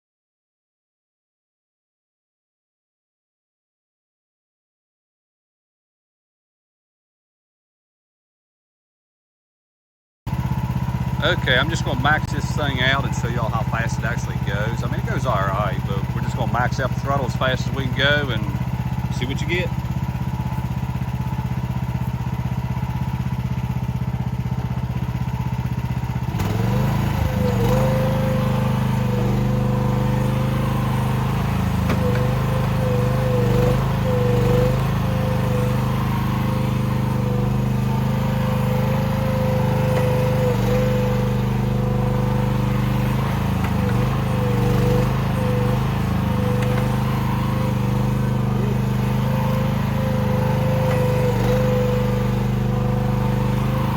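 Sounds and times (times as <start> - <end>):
excavator engine revving: 10.4 - 53.9.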